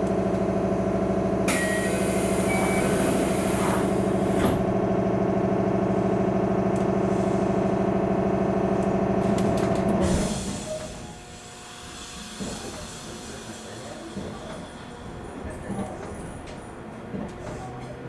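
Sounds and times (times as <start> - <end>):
electric train hum: 0.0 - 18.0.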